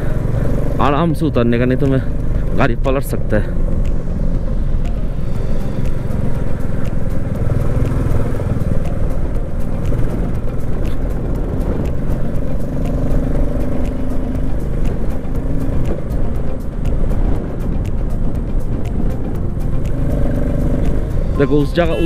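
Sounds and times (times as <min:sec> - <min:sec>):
motorcycle engine cruising: 0:00.0 - 0:22.0
road and wind noise: 0:00.0 - 0:22.0.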